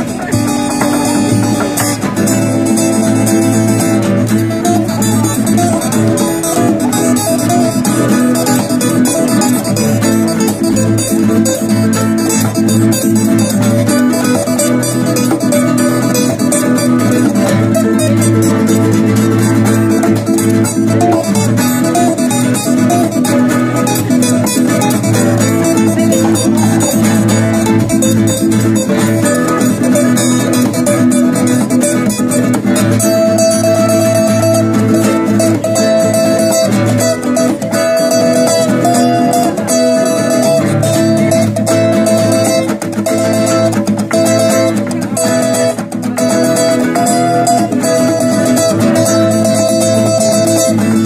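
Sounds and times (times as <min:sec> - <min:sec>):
acoustic guitar duet: 0:00.0 - 0:51.0.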